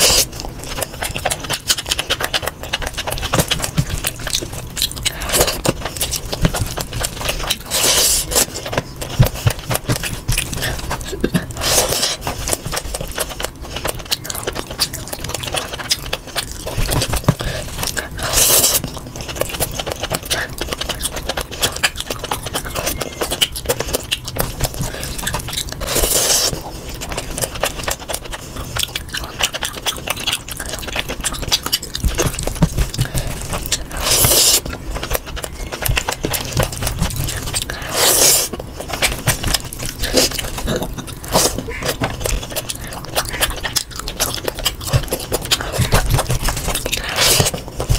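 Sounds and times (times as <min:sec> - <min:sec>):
chewing and mouth noises: 0:00.0 - 0:47.9.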